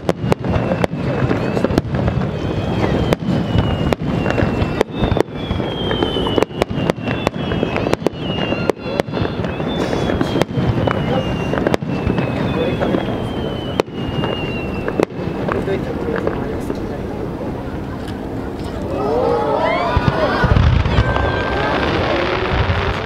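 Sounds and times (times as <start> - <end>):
firework bangs: 0.0 - 18.8, 19.6 - 23.0
continuous rumble: 0.0 - 23.0
descending firework whistle: 0.0 - 23.0.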